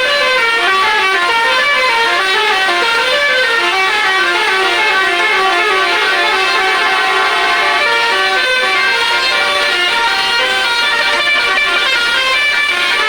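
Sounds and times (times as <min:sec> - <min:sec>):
bus multi-tone horn tune: 0:00.0 - 0:13.0.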